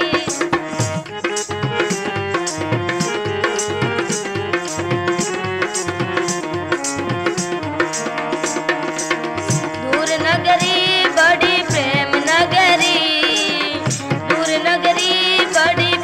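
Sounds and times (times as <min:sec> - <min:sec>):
sustained instrumental melody: 0:00.0 - 0:15.4
hand drum beat: 0:00.0 - 0:16.0.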